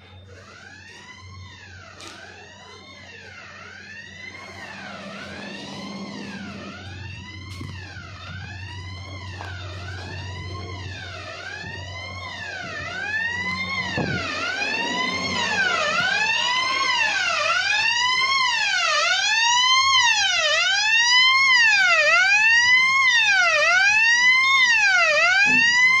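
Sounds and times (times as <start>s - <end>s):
fire alarm wailing: 0.0s - 26.0s.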